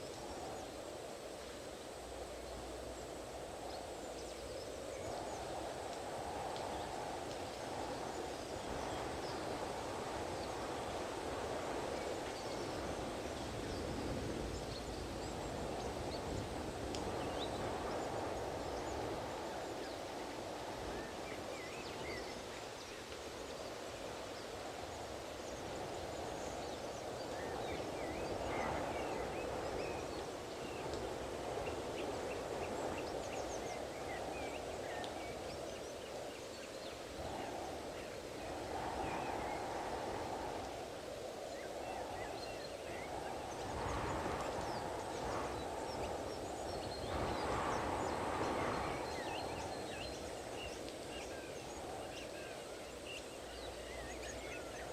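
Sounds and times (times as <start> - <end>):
strong gusty wind: 0.0 - 54.9.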